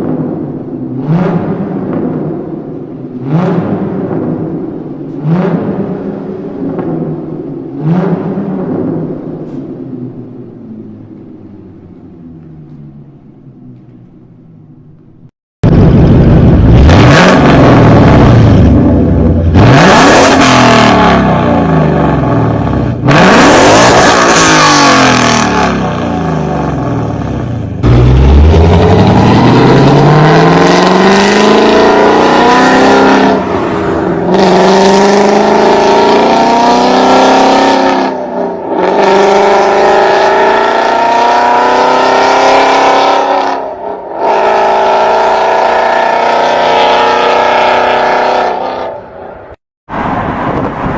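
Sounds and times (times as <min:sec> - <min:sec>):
car engine revving and accelerating: 0:00.0 - 0:09.6, 0:16.6 - 0:49.0.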